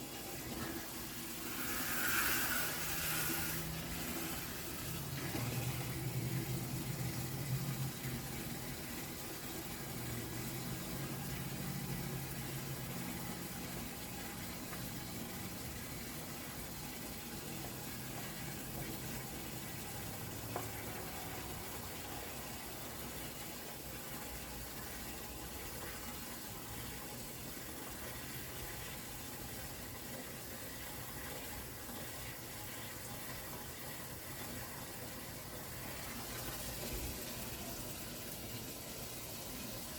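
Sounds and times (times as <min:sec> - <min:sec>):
water running into a bucket: 0:00.0 - 0:39.9.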